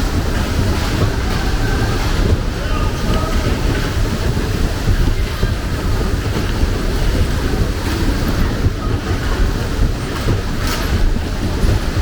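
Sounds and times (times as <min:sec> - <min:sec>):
train rumbling: 0:00.0 - 0:12.0
wind buffeting microphone: 0:00.0 - 0:12.0.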